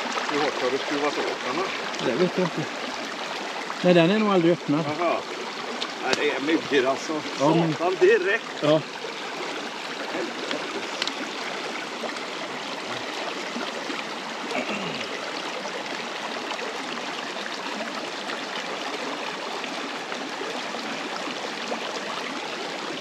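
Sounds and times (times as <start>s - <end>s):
stream running over stones: 0.0s - 23.0s.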